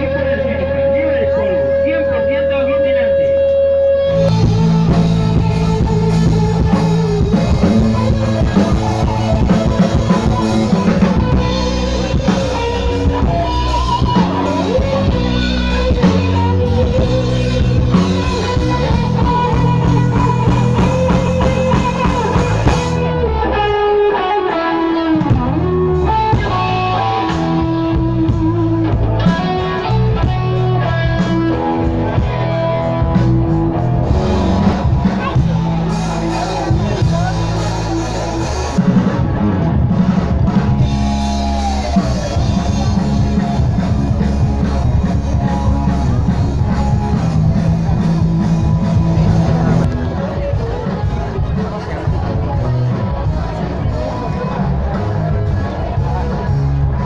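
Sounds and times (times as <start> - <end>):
rock music with guitar and drums: 0.0 - 57.0.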